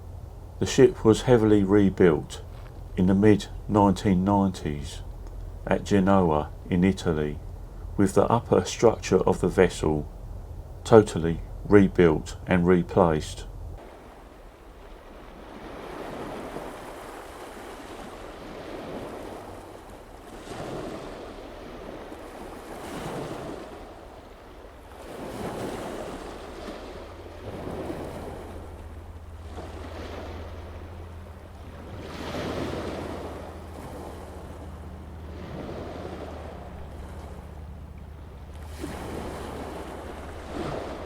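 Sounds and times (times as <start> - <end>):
steady low hum: 0.0 - 20.4, 23.4 - 41.0.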